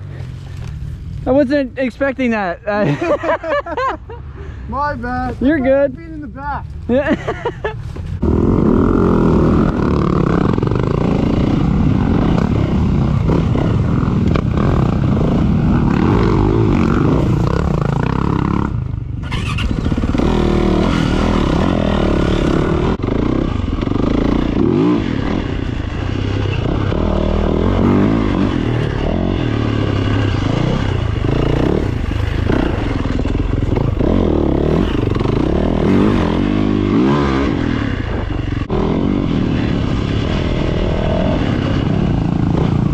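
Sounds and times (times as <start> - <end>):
dirt bike engine revving: 8.2 - 42.9.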